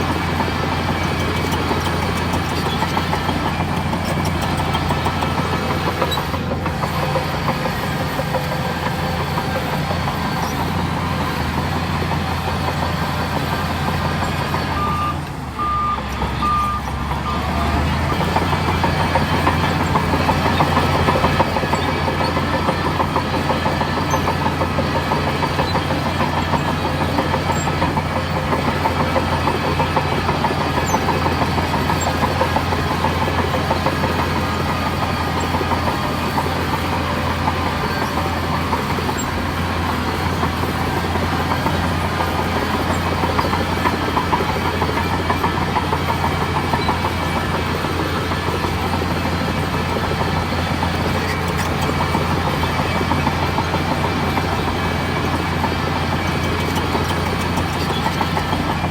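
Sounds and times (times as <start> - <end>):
bulldozer engine droning: 0.0 - 58.9.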